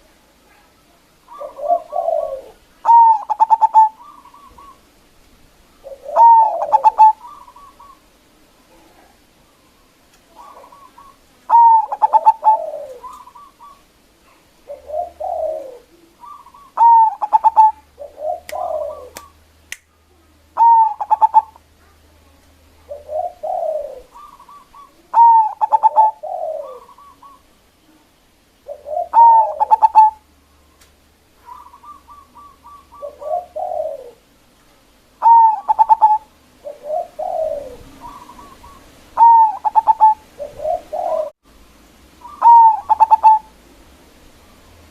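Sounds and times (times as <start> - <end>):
dove cooing: 0.0 - 5.0, 5.7 - 19.4, 20.2 - 22.0, 22.7 - 34.3, 35.2 - 41.4, 42.1 - 43.8.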